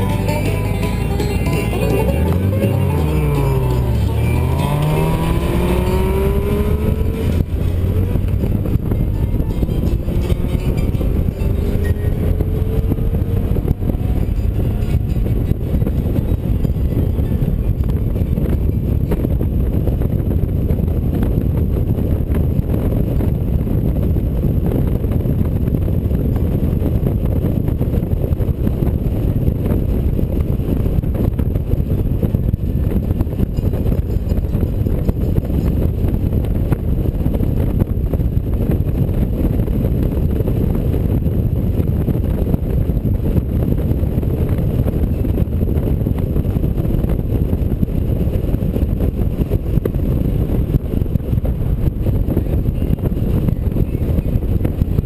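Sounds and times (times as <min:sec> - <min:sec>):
motorcycle engine cruising: 0:00.0 - 0:55.0
wind rushing: 0:00.0 - 0:55.0.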